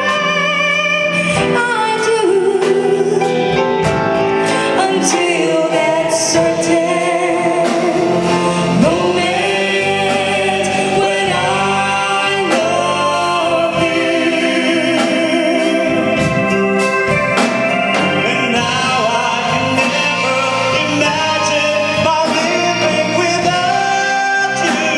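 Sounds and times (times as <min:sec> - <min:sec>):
live band playing: 0:00.0 - 0:24.9
sung vocals: 0:00.0 - 0:24.9.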